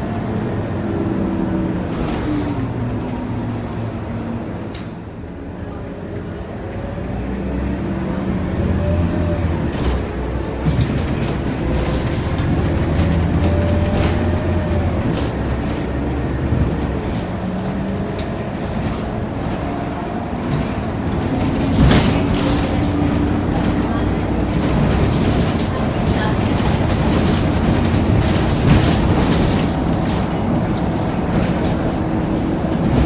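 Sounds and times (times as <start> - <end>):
bus body rattles: 0.0 - 5.8, 7.6 - 33.0
bus diesel engine accelerating: 0.0 - 33.0.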